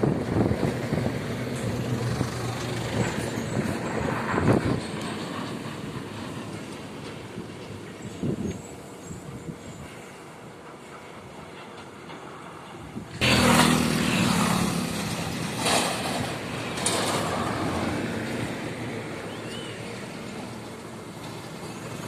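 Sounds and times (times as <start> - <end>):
truck passing by: 0.0 - 9.5, 12.6 - 22.0.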